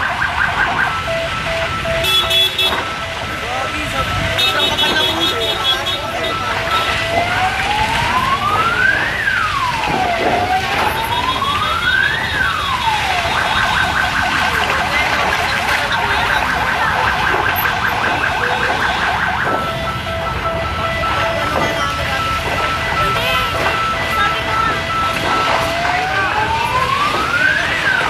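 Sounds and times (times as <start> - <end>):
emergency vehicle siren wailing: 0.0 - 28.0.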